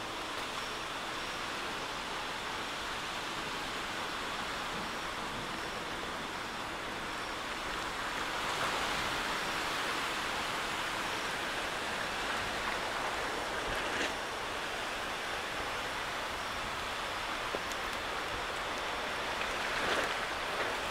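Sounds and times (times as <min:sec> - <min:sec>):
heavy rain hiss: 0:00.0 - 0:20.9.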